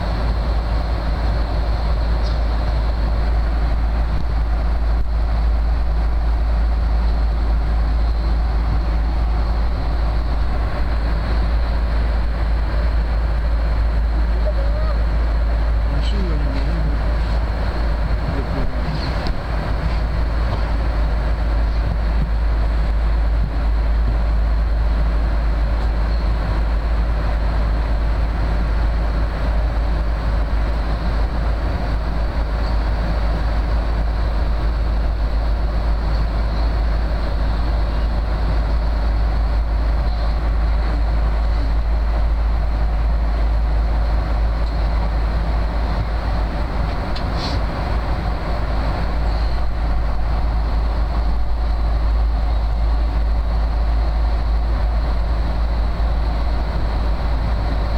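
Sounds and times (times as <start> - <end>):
jet airliner cabin noise: 0.0 - 57.9.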